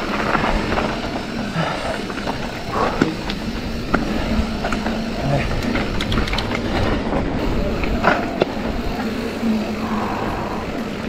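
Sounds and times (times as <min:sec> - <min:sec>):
bike knocks and rattles: 0:00.0 - 0:09.4.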